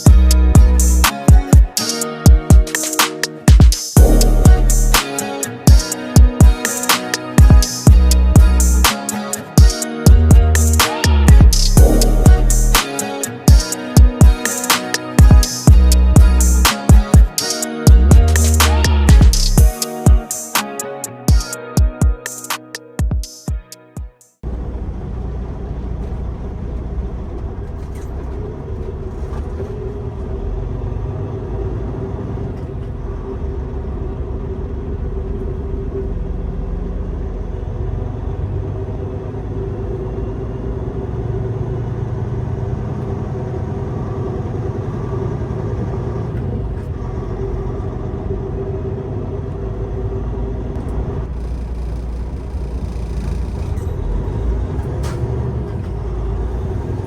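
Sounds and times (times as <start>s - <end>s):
truck engine rumbling: 0.0s - 20.0s, 24.4s - 57.0s.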